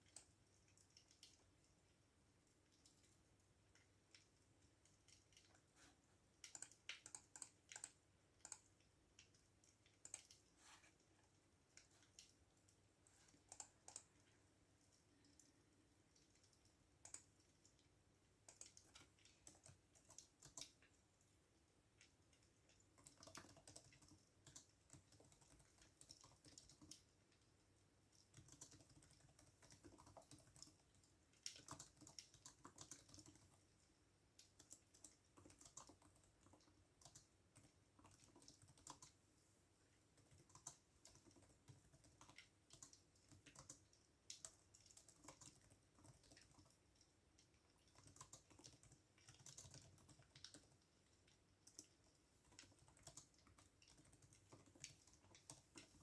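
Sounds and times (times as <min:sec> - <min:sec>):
computer keyboard typing: 0:00.0 - 0:01.6, 0:06.3 - 0:10.5, 0:11.8 - 0:15.5, 0:16.2 - 0:17.8, 0:18.4 - 0:21.0, 0:22.0 - 0:27.4, 0:28.1 - 0:39.3, 0:40.1 - 0:56.0.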